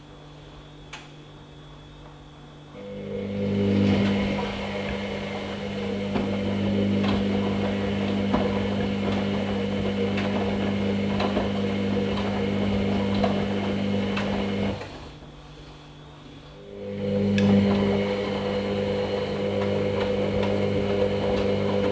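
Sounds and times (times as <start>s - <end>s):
washing machine motor hum: 0.0s - 21.9s.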